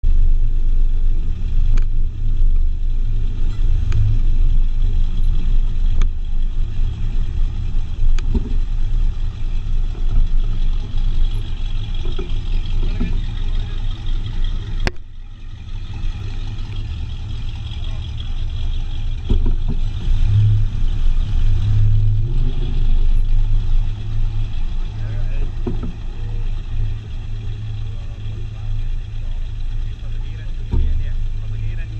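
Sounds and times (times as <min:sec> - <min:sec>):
car engine and road noise: 0:00.0 - 0:31.9.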